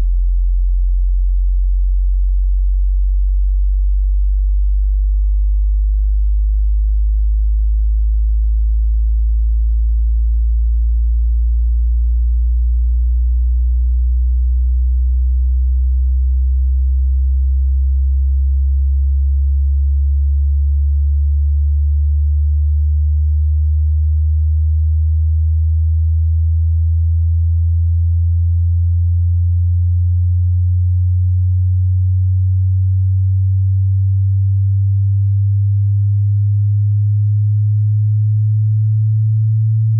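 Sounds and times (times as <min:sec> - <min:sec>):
deep sine tone gliding upward: 0:00.0 - 0:39.9.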